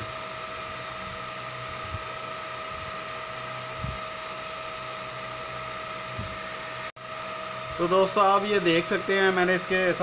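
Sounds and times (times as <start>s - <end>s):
fan-like hiss: 0.0s - 10.0s.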